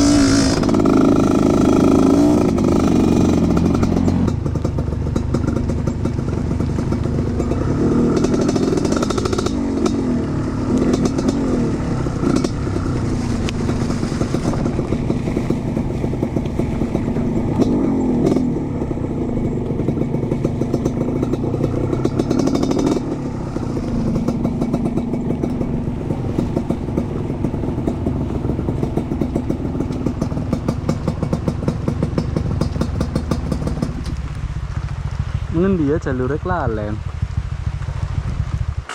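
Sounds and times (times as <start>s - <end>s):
engine clatter: 0.0s - 38.9s
motorcycle engine revving: 0.0s - 38.9s.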